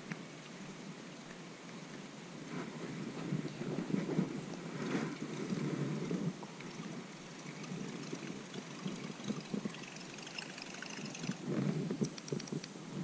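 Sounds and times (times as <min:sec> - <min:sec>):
light rain hissing: 0:00.0 - 0:13.0
low rumble on microphone: 0:02.4 - 0:13.0.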